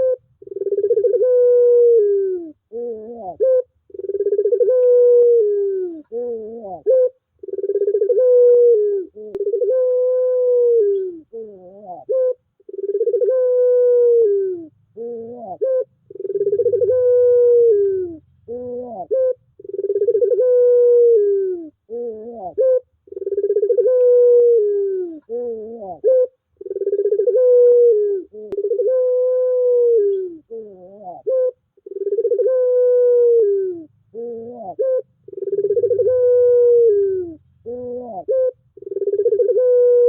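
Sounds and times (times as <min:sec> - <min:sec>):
dove cooing: 0:00.0 - 0:40.0.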